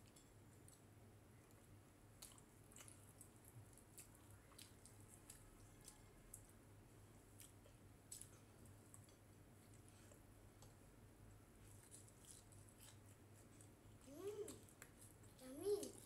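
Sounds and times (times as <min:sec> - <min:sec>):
soft chewing: 0:00.0 - 0:16.0.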